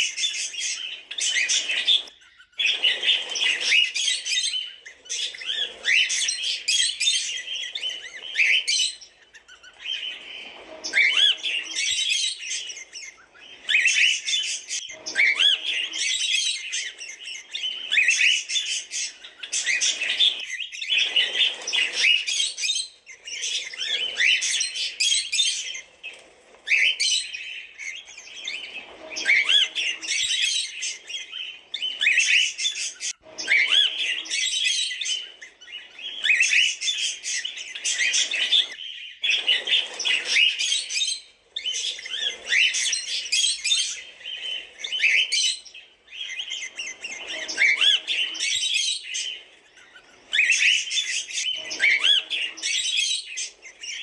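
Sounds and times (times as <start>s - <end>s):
cockatiels chirping: 0.0s - 54.0s.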